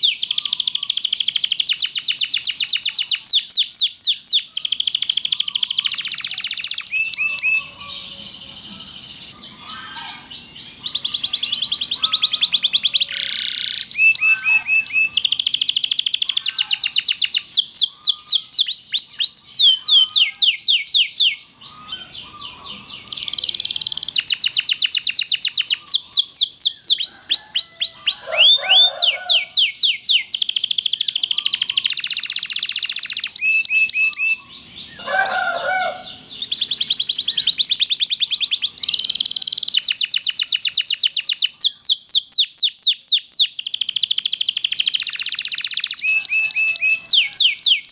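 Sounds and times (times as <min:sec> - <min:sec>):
canary singing rolling trills: 0:00.0 - 0:47.9.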